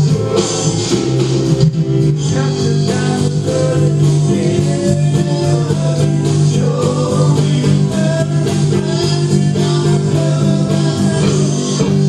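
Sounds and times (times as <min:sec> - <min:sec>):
guitar: 0:00.0 - 0:12.0
person singing: 0:02.1 - 0:12.0.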